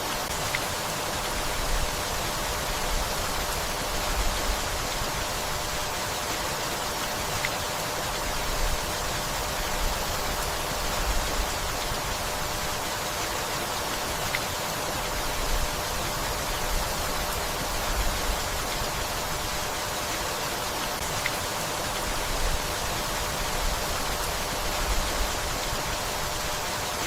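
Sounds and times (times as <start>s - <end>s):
gentle rain falling: 0.0s - 27.0s.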